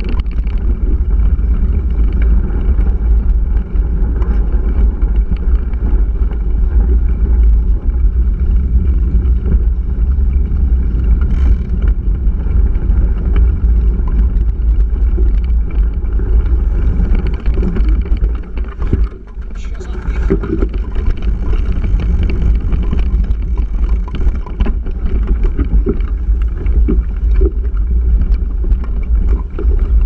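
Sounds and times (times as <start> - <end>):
low rumble of wind and vibration: 0.0 - 30.0.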